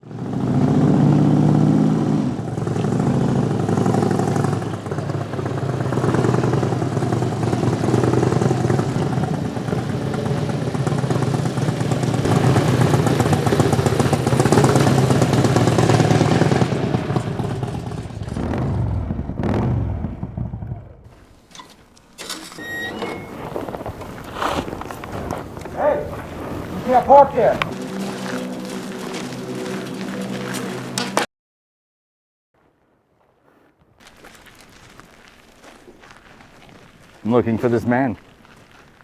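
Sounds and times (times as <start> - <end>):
vehicle engine revving: 0.0 - 31.3.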